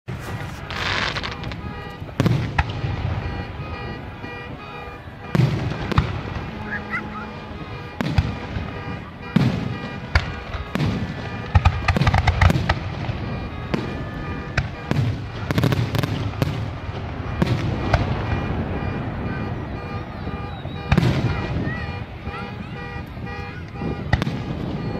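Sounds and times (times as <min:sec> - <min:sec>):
fireworks booming: 0:00.1 - 0:24.9.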